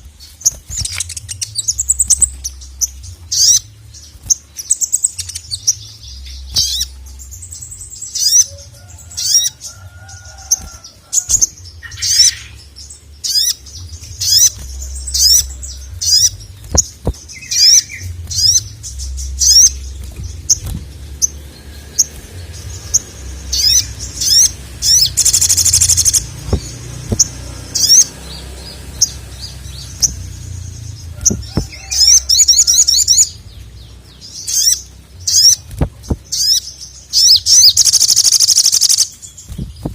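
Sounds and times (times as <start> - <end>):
sunbird chirping and trilling: 0.0 - 39.9.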